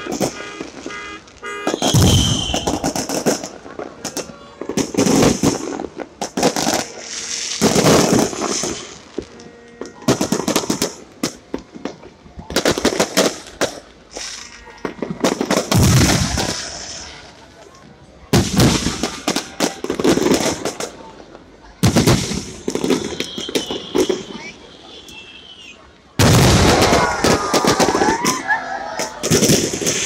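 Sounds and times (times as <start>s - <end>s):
firework booms: 0.0s - 17.4s, 18.3s - 21.2s, 21.8s - 24.5s, 26.2s - 30.0s
crackling firework pops: 0.0s - 30.0s.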